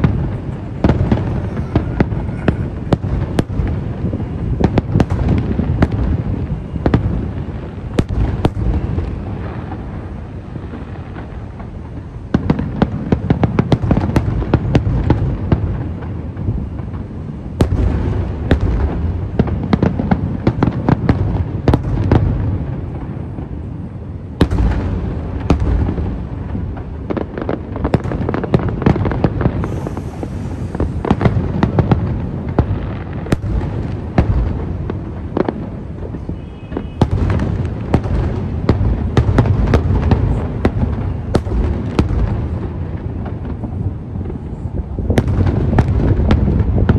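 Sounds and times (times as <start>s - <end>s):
fireworks bursts and crackling: 0.0s - 46.9s
fireworks deep booms: 0.0s - 46.9s.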